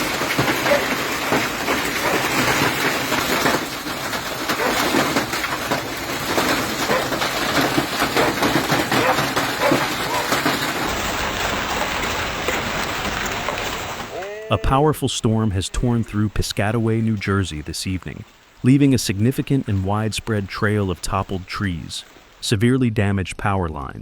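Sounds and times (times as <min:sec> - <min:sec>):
heavy rain pouring: 0:00.0 - 0:22.6.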